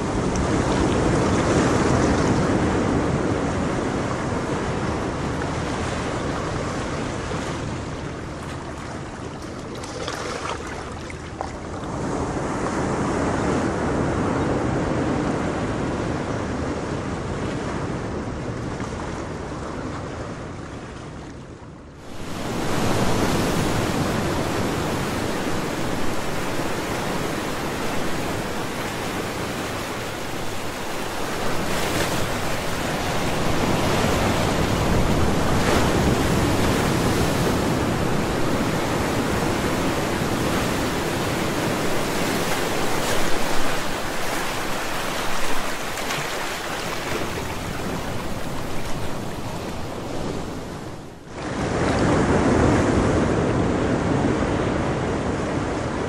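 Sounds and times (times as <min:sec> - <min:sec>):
ocean waves breaking: 0:00.0 - 0:14.3, 0:22.0 - 0:56.0.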